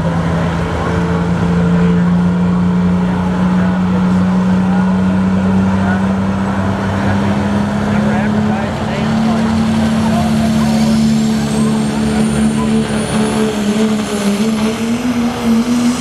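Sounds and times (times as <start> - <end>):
diesel truck engine at high revs: 0.0 - 16.0.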